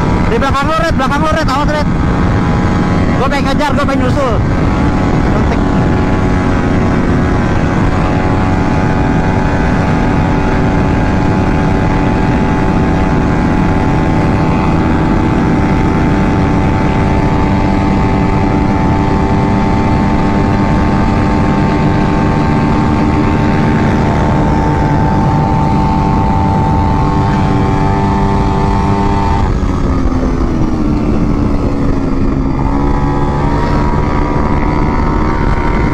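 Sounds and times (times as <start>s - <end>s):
scooter engine at high revs: 0.0s - 35.9s.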